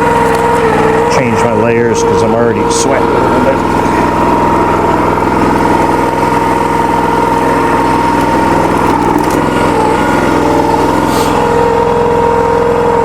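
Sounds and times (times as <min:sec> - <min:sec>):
constant high hum: 0:00.0 - 0:13.0
small engine running: 0:00.0 - 0:13.0.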